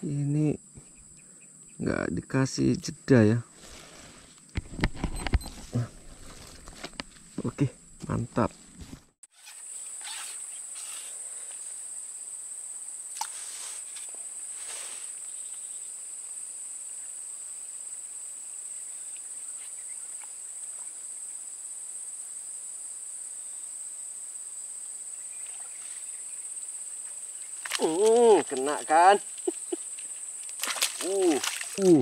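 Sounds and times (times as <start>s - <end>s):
insects buzzing: 0.0s - 32.0s.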